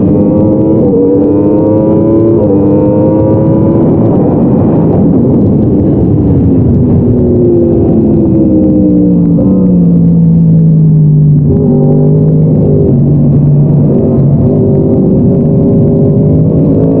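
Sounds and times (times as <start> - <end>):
motorcycle engine at high revs: 0.0 - 6.1, 6.7 - 17.0.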